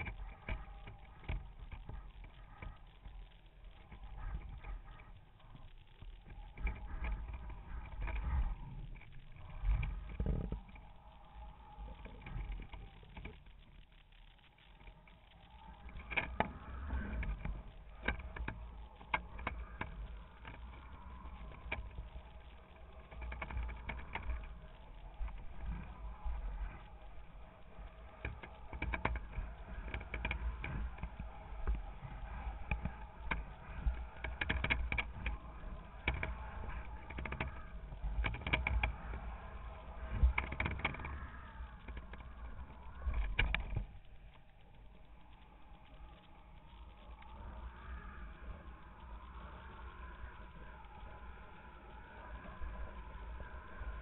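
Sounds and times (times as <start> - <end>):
wind buffeting camera: 0.0 - 54.0.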